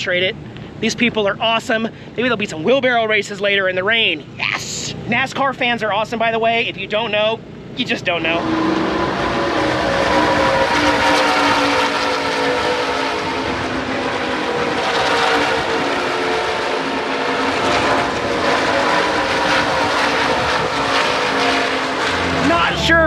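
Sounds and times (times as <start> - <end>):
engine whine and rumble: 0.0 - 23.0.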